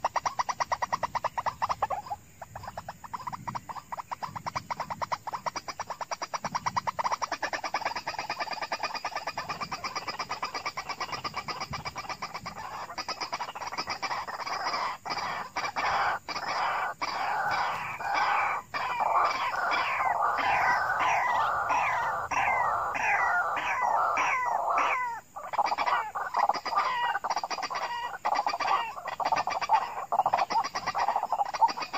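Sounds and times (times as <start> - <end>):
waterhens calling: 0.0 - 31.9.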